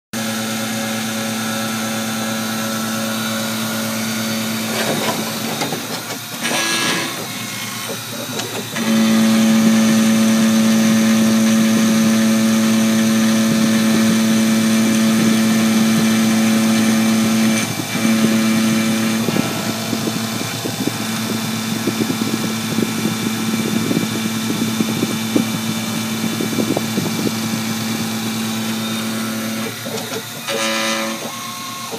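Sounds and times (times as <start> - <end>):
milling machine motor whine: 0.2 - 31.9.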